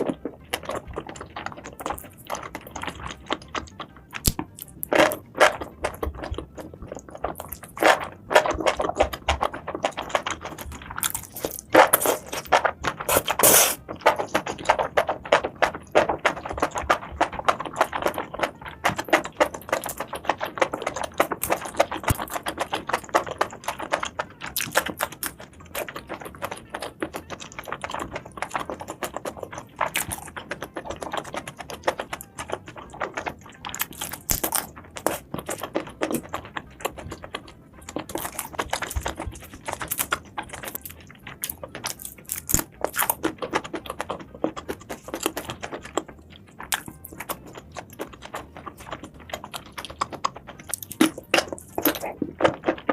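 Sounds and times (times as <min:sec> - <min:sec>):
crunching and chewing seafood: 0:00.0 - 0:52.9.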